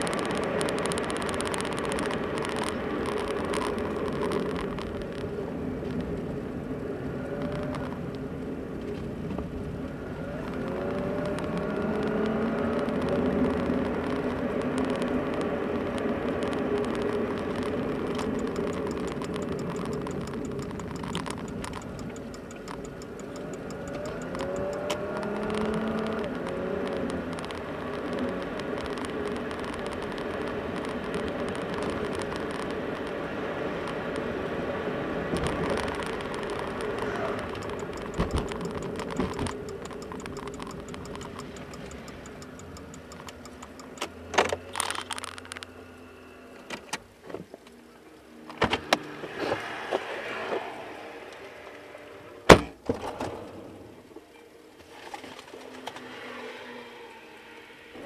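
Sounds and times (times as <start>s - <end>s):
car engine hum: 0.0s - 52.8s
road noise: 0.0s - 58.0s.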